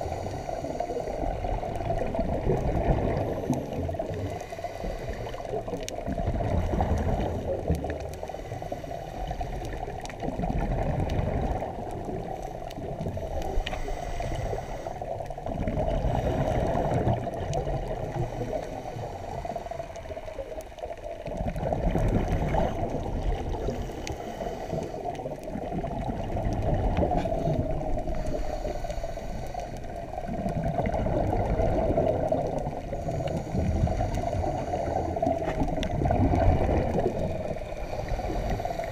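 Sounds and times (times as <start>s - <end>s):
exhaled bubbles gurgling: 0.0s - 38.9s
muffled underwater rush: 0.0s - 38.9s.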